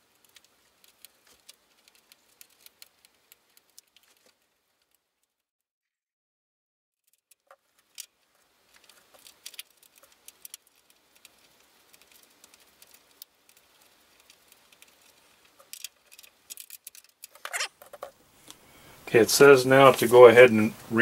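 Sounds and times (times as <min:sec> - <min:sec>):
steady low hiss: 0:00.0 - 0:05.0, 0:07.4 - 0:21.0.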